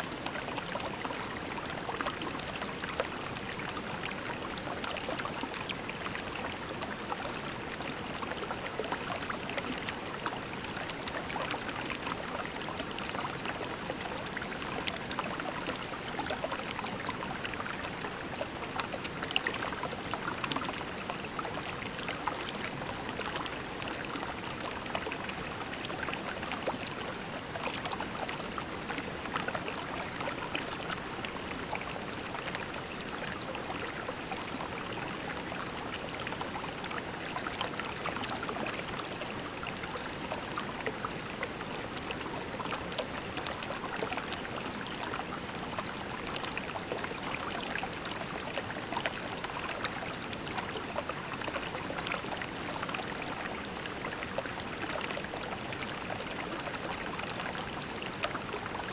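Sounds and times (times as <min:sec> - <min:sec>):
creek water trickling over pebbles: 0:00.0 - 0:58.9.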